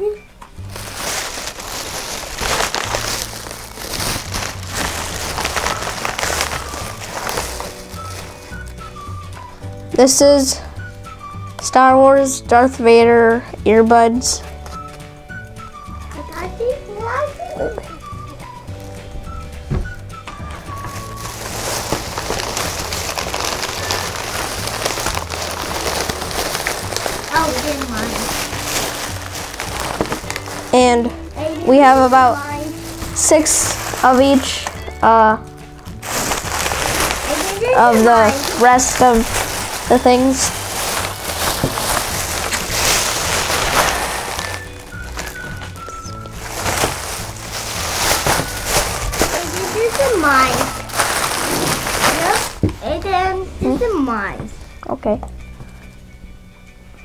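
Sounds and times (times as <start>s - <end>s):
plastic bag rustling and crinkling: 0.6s - 11.2s, 15.6s - 53.0s.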